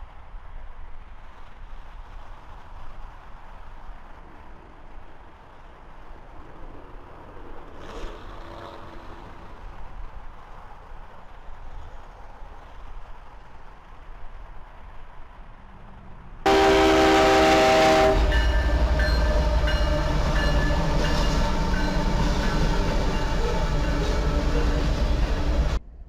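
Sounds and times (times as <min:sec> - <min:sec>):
distant traffic rumble: 0:01.0 - 0:26.0.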